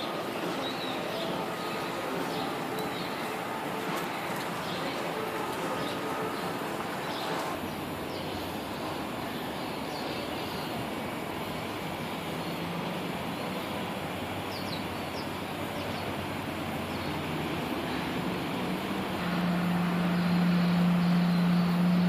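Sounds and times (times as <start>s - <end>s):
distant traffic rumble: 0.0s - 22.0s.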